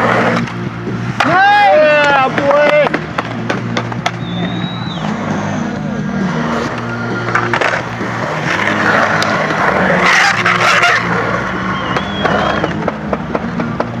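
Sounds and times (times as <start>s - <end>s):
skateboard clacks: 0.0s - 5.0s, 6.6s - 14.0s
skateboard wheels rolling on concrete: 0.0s - 14.0s.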